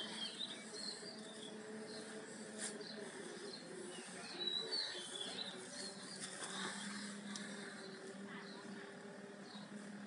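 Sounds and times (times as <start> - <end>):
faint steady low hum: 0.0 - 10.0
small birds chirping: 0.0 - 10.0.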